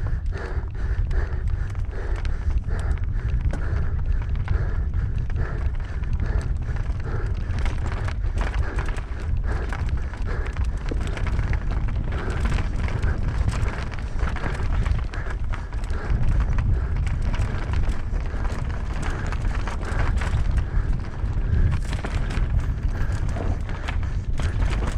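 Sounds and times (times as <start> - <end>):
wind rumble on microphone: 0.0 - 24.9
bike rattling over rocks: 1.4 - 24.9.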